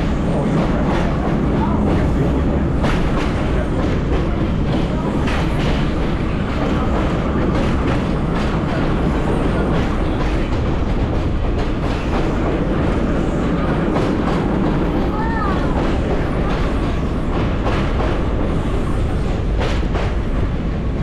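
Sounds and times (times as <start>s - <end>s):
subway car rumbling: 0.0s - 21.0s.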